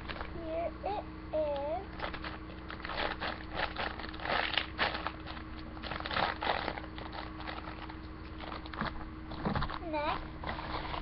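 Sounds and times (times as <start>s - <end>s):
plastic packaging crinkling: 0.0s - 0.4s, 1.9s - 11.0s
low electrical hum: 0.0s - 11.0s.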